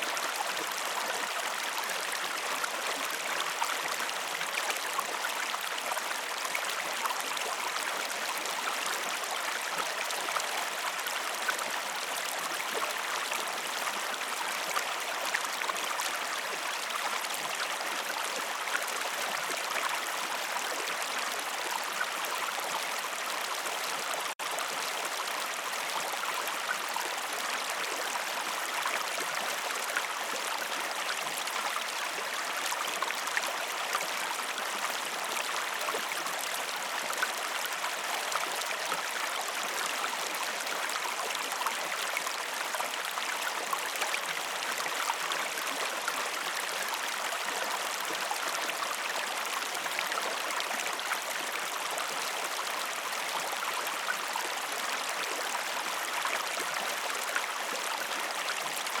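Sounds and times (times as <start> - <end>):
flowing stream water: 0.0 - 59.0.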